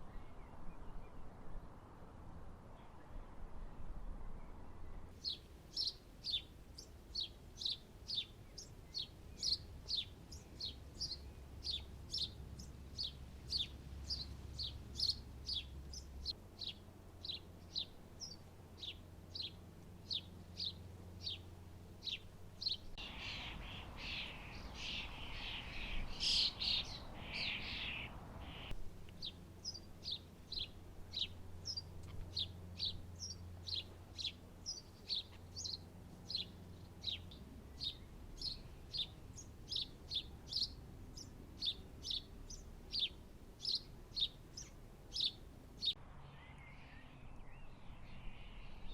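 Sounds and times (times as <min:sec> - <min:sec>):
small birds chirping: 0:05.2 - 0:48.9.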